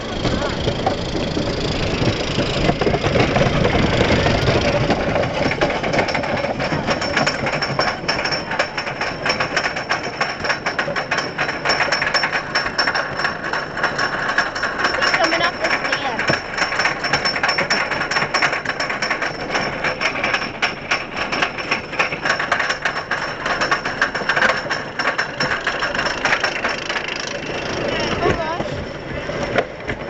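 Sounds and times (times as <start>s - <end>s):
chain lift clacking: 0.0s - 29.8s
roller coaster train rumbling: 0.0s - 30.0s.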